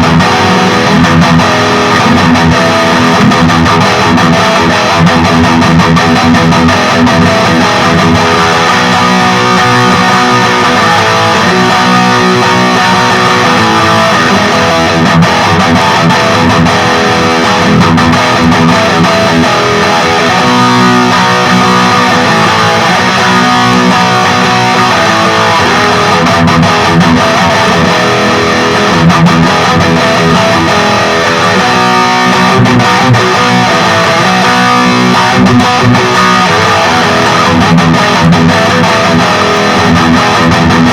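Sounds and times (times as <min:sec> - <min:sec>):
distorted electric guitar chords: 0:00.0 - 0:40.9.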